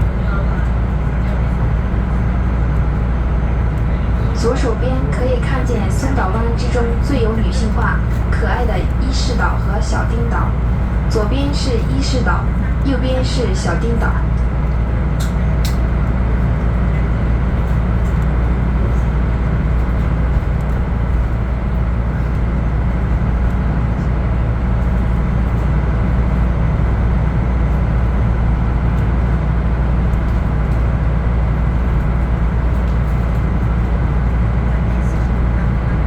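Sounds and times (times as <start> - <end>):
boat engine humming: 0.0 - 36.0.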